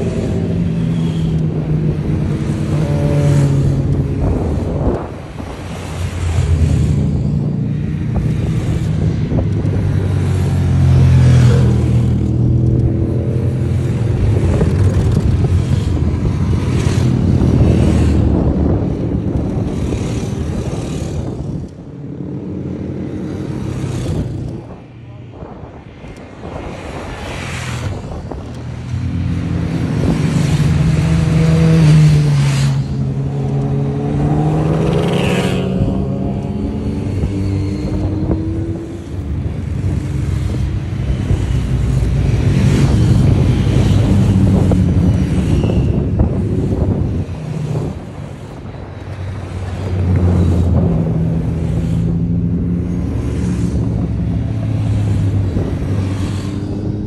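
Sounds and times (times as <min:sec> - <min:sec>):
motorcycles passing at speed: 0:00.0 - 0:57.0.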